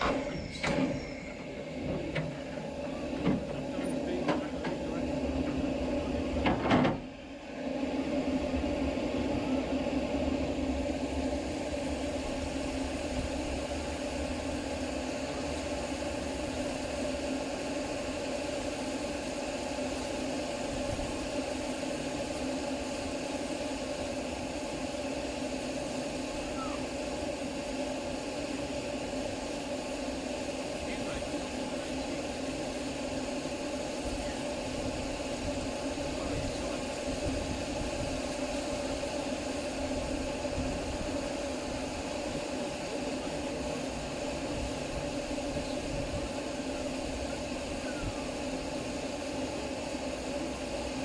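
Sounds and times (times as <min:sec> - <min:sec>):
locomotive cab hum: 0:00.0 - 0:51.0.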